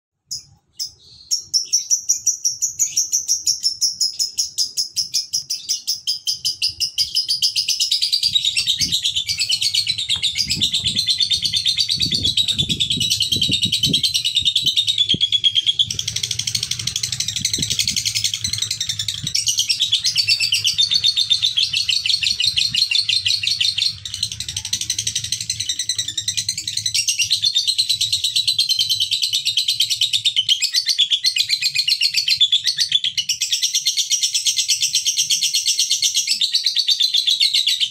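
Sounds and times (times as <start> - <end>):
lovebird chattering trill: 0.3 - 33.7.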